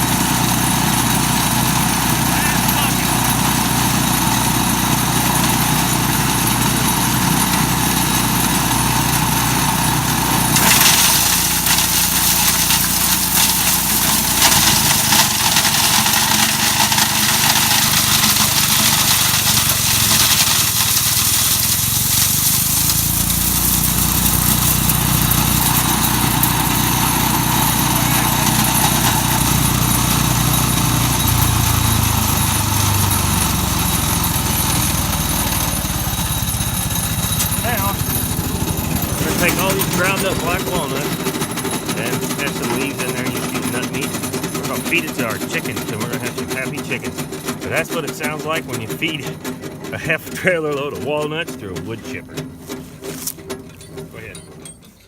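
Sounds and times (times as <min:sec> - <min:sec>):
harsh grinding rush: 0:00.0 - 0:54.8
wood chipper engine under load: 0:00.0 - 0:55.0.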